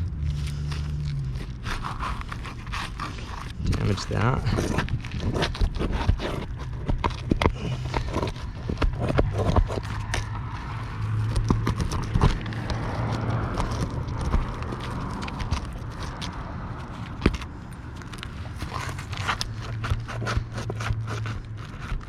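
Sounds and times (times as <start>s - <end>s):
prying and scraping roof shingle: 0.0s - 22.0s
steady low hum: 0.0s - 22.0s.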